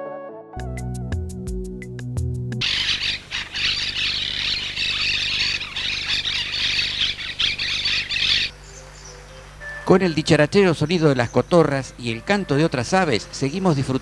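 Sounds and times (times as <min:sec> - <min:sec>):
parakeets squawking: 0:02.6 - 0:14.0.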